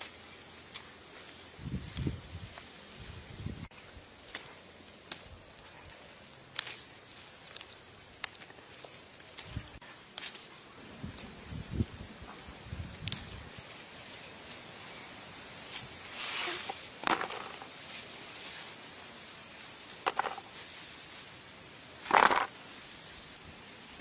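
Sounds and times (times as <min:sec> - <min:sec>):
hands rustling through leaves: 0:00.0 - 0:24.0.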